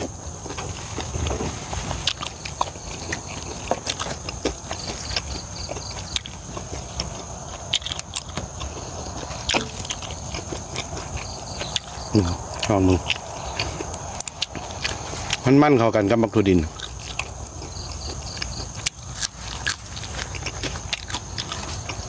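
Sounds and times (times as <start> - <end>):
wet smacking and crunching chewing: 0.0 - 22.0.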